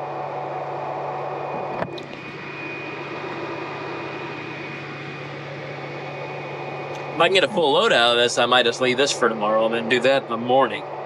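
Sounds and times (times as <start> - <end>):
machinery high whine: 0.0 - 11.0
tractor engine hum: 0.0 - 11.0.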